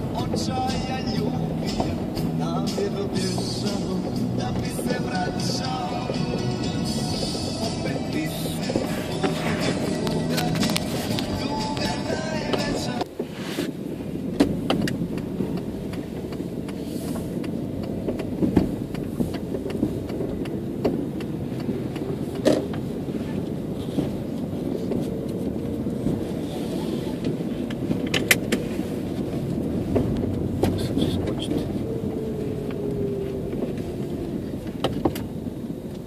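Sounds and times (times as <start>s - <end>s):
car interior road rumble: 0.0s - 36.0s.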